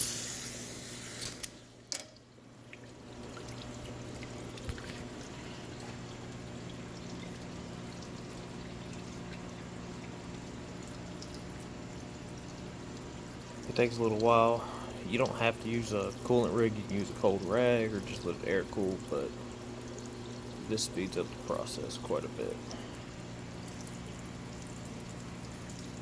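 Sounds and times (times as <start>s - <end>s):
coolant hissing on hot metal: 0.0s - 1.8s, 3.7s - 26.0s
coolant pouring trickle: 0.0s - 26.0s.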